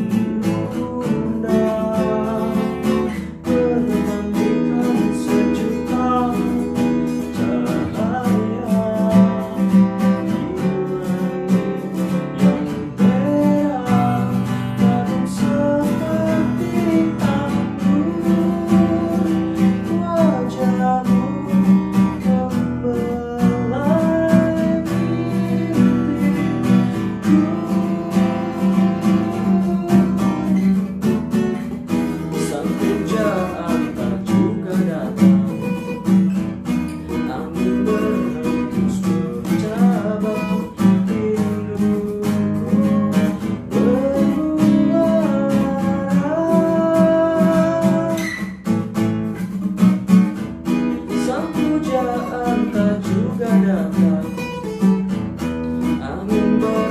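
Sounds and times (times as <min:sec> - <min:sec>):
person singing: 0:00.0 - 0:48.7, 0:50.7 - 0:56.9
acoustic guitar strumming: 0:00.0 - 0:56.9.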